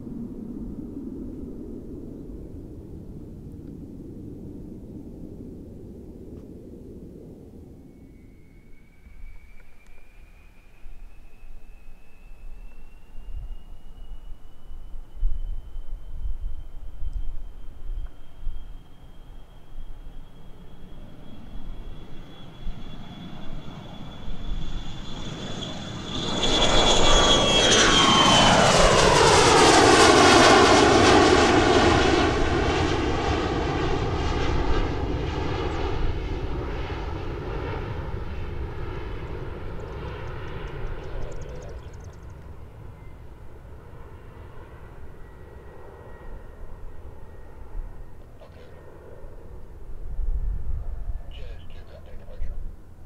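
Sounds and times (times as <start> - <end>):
high jet engine whine: 0.0 - 53.0
jet taking off: 0.0 - 53.0.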